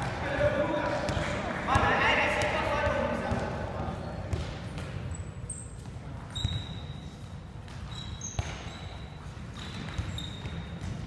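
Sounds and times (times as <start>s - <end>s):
sneakers squeaking on floor: 0.0s - 11.0s.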